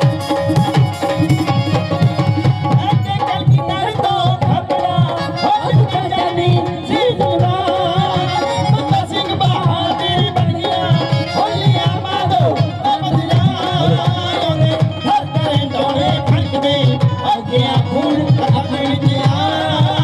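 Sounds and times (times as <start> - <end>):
fast dhol drum beat: 0.0 - 20.0
man singing into a microphone: 0.0 - 20.0.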